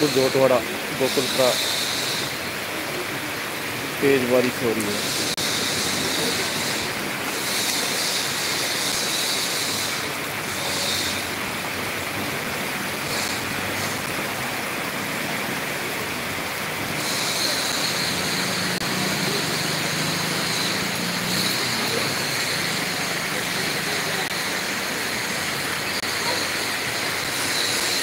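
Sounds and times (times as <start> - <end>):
vehicle passing through water: 0.0 - 27.3
heavy rain hissing: 0.0 - 28.0.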